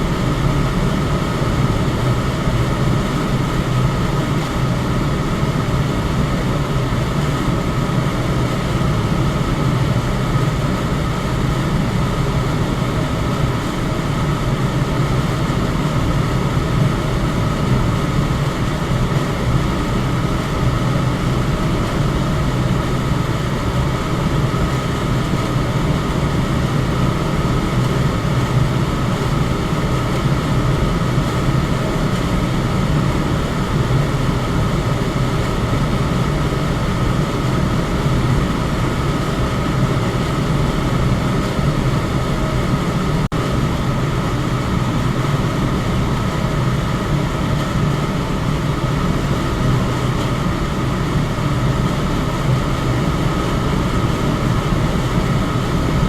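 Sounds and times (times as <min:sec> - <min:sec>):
electric fan running: 0:00.0 - 0:56.0.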